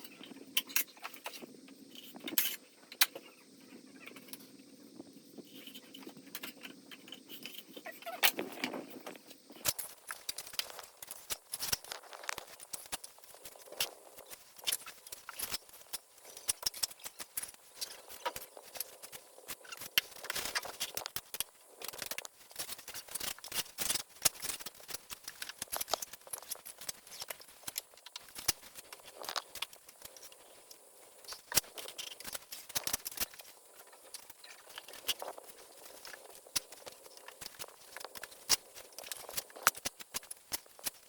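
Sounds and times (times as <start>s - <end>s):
faint steady hiss: 0.0s - 41.0s.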